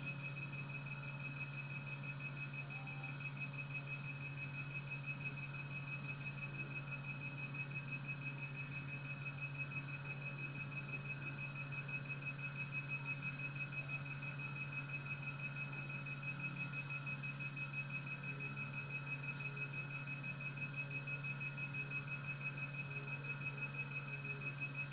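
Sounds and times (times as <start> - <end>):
machine low hum: 0.0 - 24.9.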